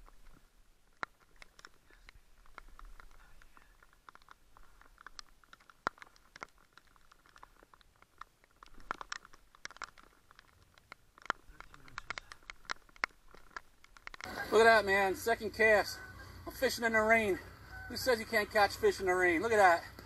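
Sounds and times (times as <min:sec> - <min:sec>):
raindrops ticking: 0:00.0 - 0:20.0.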